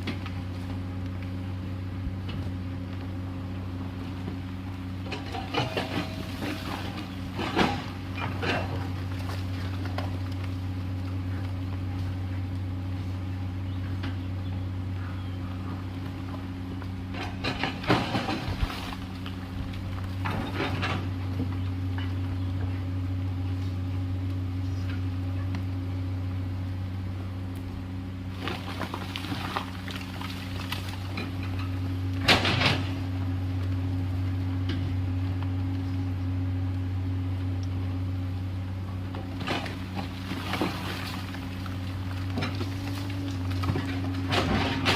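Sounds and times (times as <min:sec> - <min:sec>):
excavator diesel engine droning: 0:00.0 - 0:44.9.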